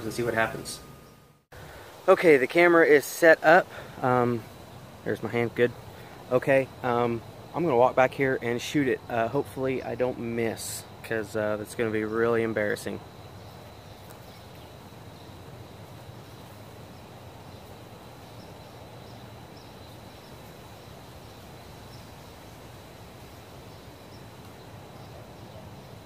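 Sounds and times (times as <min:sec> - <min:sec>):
steady hiss: 0:00.0 - 0:26.0
thin high insect tone: 0:00.0 - 0:26.0.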